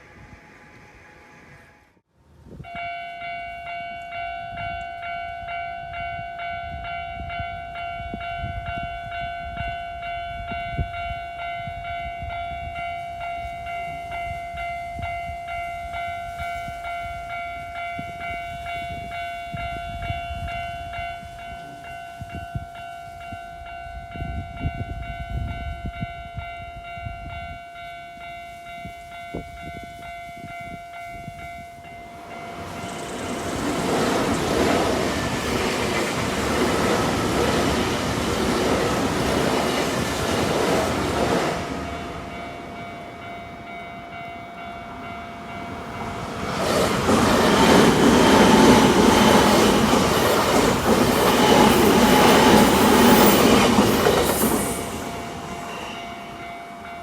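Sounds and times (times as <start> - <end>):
train passing rumble: 0.0 - 57.0
level-crossing warning bell ringing: 2.6 - 57.0.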